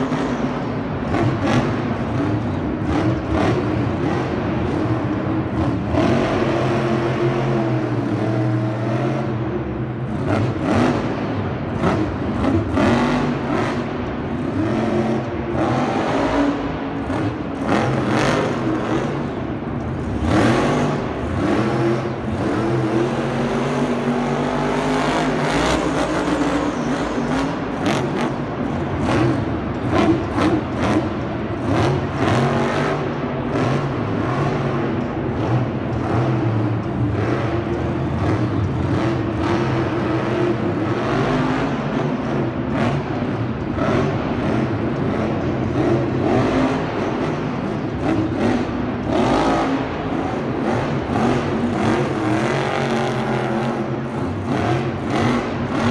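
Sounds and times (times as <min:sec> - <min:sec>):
vehicle engines revving: 0:00.0 - 0:55.9.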